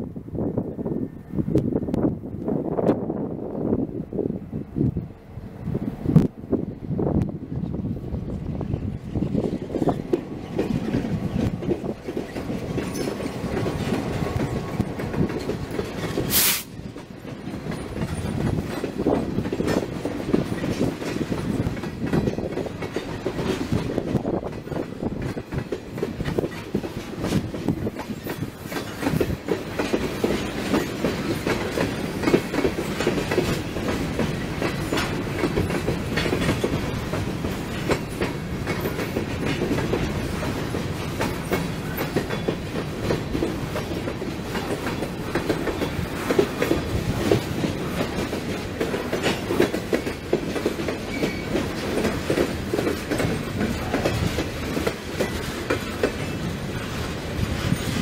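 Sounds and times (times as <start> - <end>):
diesel locomotive passing: 0.0 - 58.0
train cars rumbling: 0.0 - 58.0
wheels clicking over rail joints: 9.0 - 58.0.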